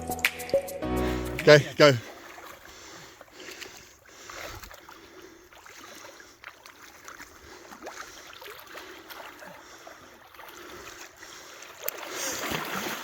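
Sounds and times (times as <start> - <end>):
small water splashes: 1.8 - 13.0
shallow water sloshing and trickling: 1.9 - 13.0.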